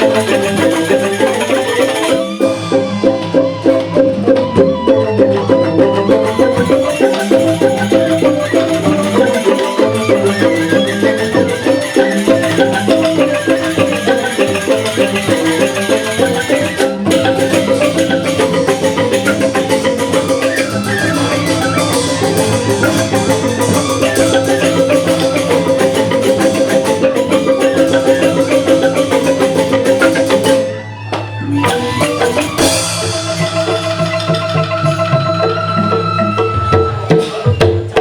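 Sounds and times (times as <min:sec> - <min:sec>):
bamboo xylophones playing: 0:00.0 - 0:38.0
steady percussion: 0:00.0 - 0:38.0.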